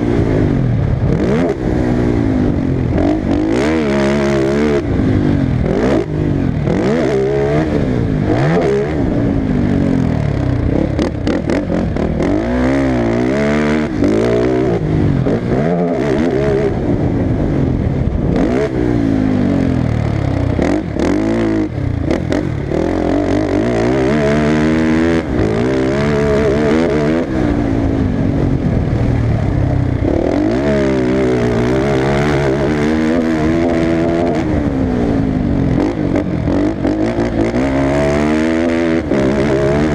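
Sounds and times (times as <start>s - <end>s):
motocross engine revving: 0.0s - 29.0s, 29.9s - 39.9s.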